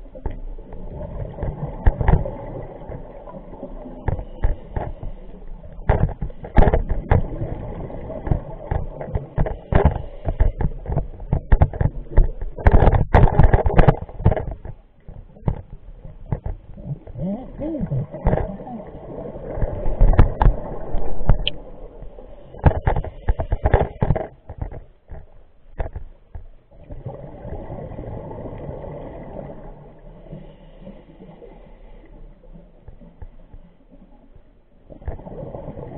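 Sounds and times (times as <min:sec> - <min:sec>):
exhaled bubbles rumbling: 0:00.0 - 0:25.3, 0:26.7 - 0:35.9.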